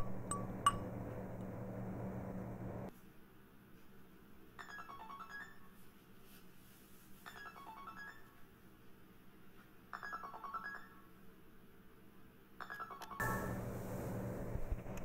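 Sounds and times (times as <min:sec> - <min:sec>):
room noise with low hum: 0:00.0 - 0:15.0.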